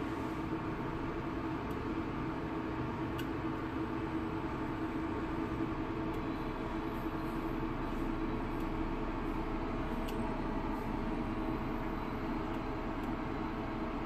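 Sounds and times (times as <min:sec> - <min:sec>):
cooling fan whirring: 0:00.0 - 0:14.0
low electrical hum: 0:00.0 - 0:14.0.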